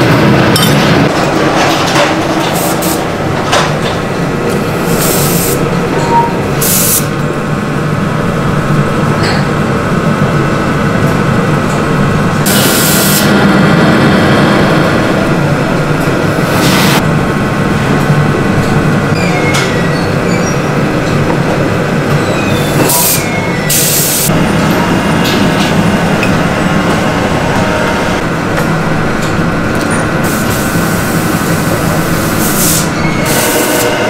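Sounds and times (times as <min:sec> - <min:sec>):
factory machinery drone: 0:00.0 - 0:34.0.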